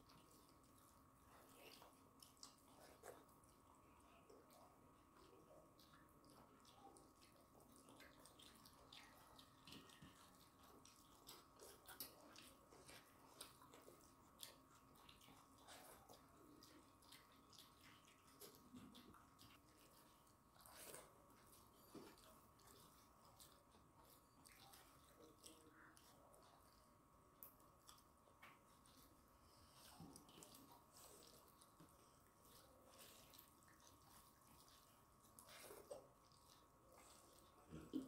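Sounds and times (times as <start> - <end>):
wet chewing: 0.0 - 38.0.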